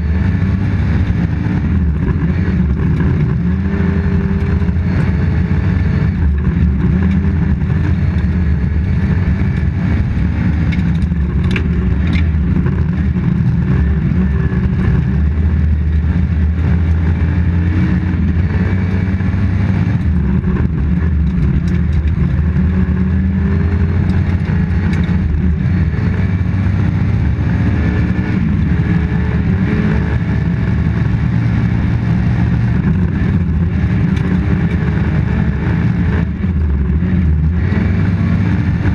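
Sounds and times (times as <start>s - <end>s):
rally car engine revving: 0.0s - 38.9s
tyre and road noise: 0.0s - 38.9s.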